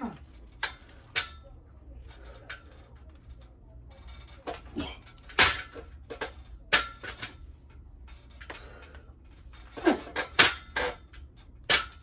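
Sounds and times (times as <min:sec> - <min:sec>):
pull-up tower rattling: 0:00.0 - 0:12.0.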